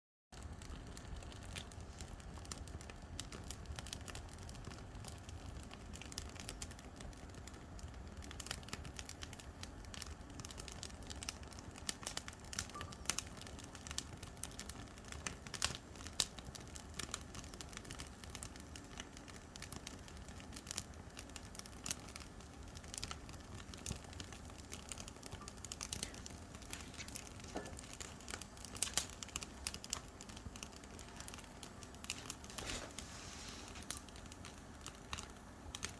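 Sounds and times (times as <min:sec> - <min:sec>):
campfire crackling and popping: 0:00.4 - 0:35.9.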